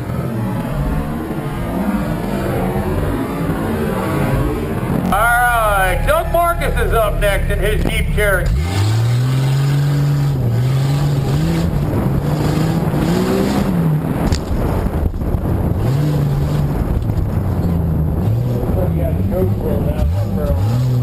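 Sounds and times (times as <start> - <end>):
car engine revving hard: 0.0 - 21.0
wind and tyre noise: 0.0 - 21.0.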